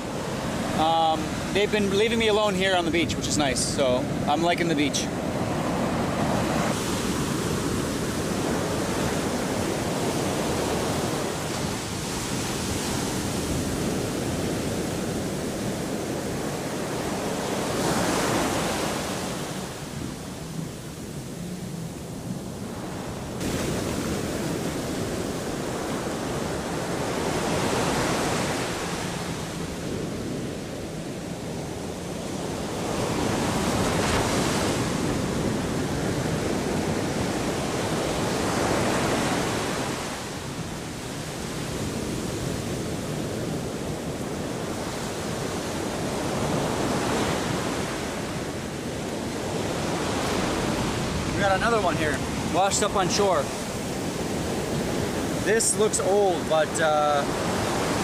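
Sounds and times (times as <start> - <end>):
ocean surf washing ashore: 0.0 - 58.0.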